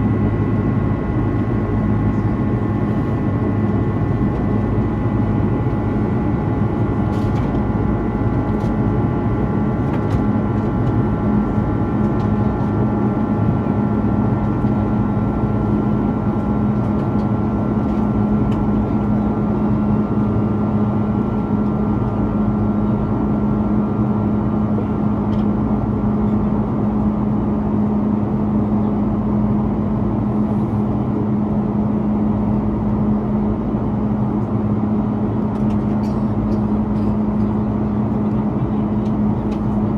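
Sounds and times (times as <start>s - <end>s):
aircraft cabin engine hum: 0.0s - 39.9s.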